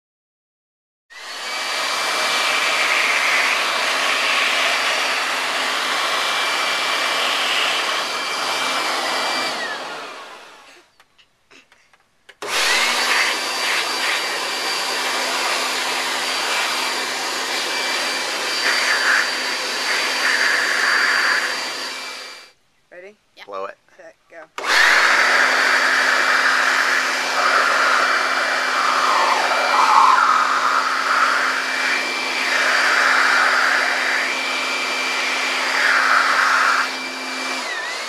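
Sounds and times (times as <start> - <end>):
leaf blower running: 1.1 - 10.9, 12.4 - 22.5, 24.6 - 38.0.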